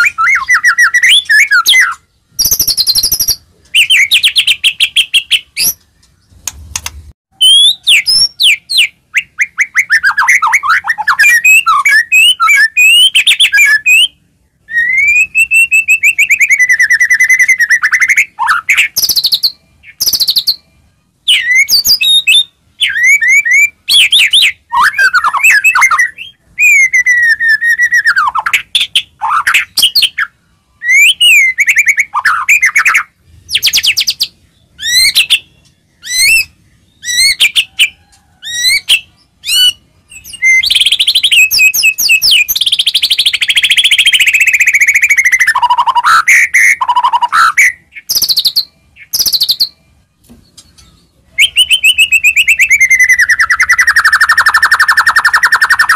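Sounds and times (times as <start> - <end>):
bird singing whistled phrases: 0.0 - 5.8, 7.4 - 49.8, 51.4 - 55.9.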